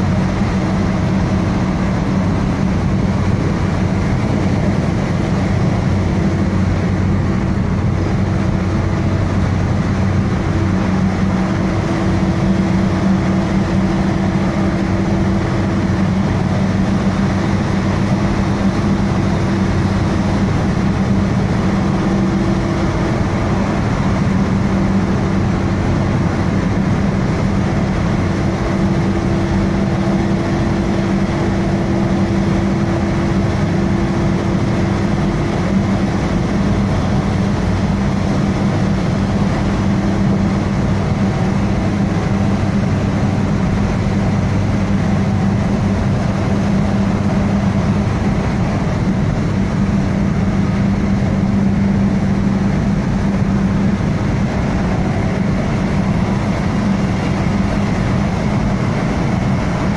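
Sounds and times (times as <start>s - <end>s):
low engine hum: 0.0s - 59.9s
tyre and road noise: 0.0s - 59.9s.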